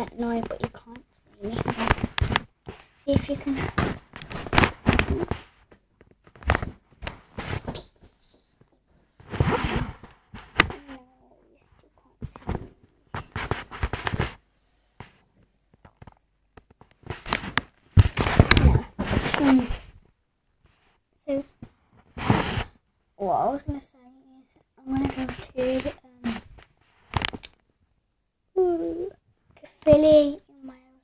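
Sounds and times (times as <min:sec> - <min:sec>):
rustling handling noise: 0:00.0 - 0:22.8, 0:24.8 - 0:27.6.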